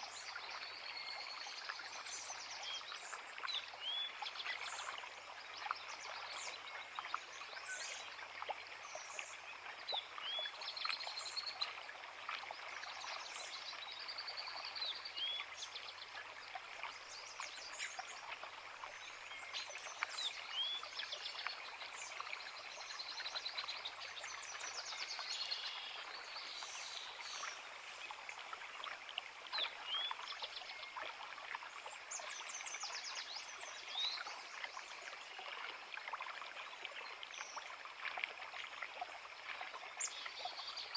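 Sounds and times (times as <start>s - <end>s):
songbirds singing: 0.0s - 37.7s, 39.6s - 40.9s
creek water rushing: 0.0s - 40.9s.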